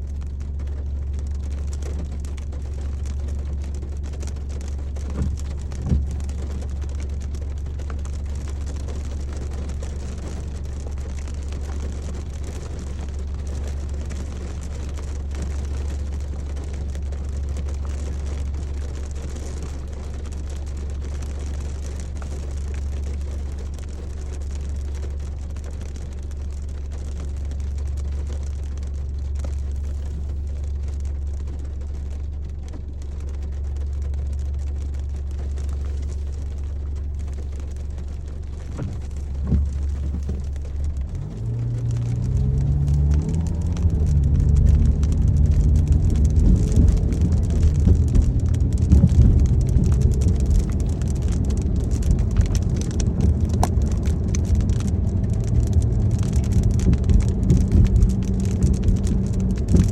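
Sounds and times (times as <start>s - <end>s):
car interior rumble: 0.0s - 59.9s
light rain on car: 0.0s - 59.9s.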